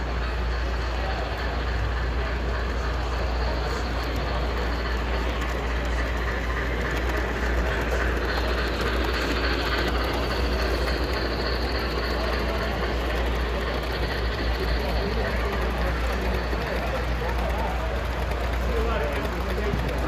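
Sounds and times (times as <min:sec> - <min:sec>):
model train rumbling hum: 0:00.0 - 0:20.0.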